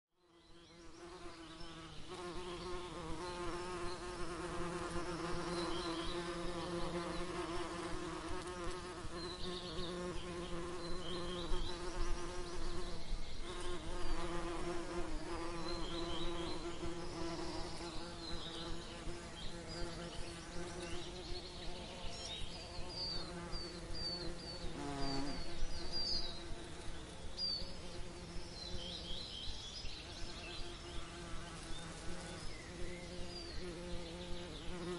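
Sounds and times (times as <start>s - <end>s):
small birds chirping: 0.2s - 34.9s
bees buzzing: 0.9s - 29.1s.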